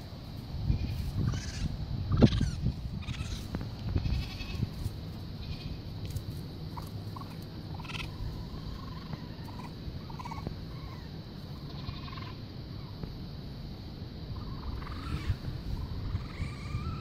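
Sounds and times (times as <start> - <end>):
young raccoon calling: 0.7 - 13.1, 14.3 - 17.0.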